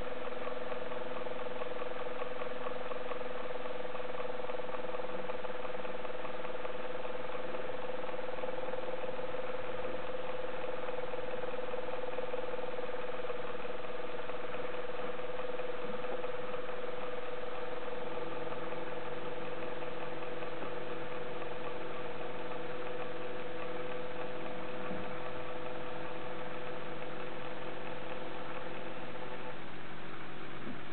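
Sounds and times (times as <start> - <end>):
small electric motor whining: 0.0 - 30.9.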